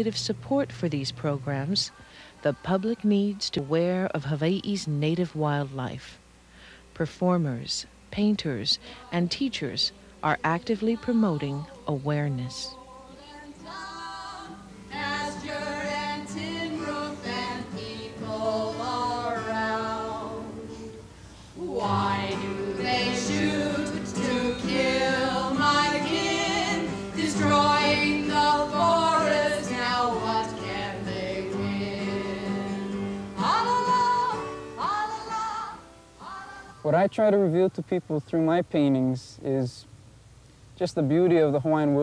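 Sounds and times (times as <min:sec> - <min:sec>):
woman singing: 0:00.0 - 0:06.0, 0:08.2 - 0:21.0, 0:21.6 - 0:36.8
acoustic guitar: 0:00.0 - 0:39.6.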